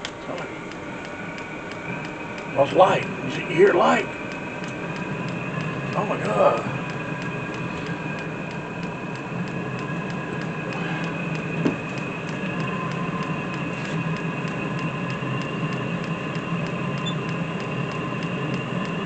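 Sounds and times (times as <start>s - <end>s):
fast regular ticking: 0.0s - 19.0s
heater whirring hum: 0.0s - 19.0s.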